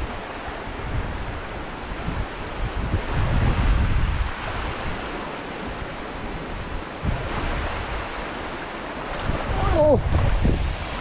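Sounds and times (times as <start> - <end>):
river water rushing: 0.0 - 11.0
water splashing: 0.0 - 11.0
wind buffeting microphone: 0.0 - 11.0.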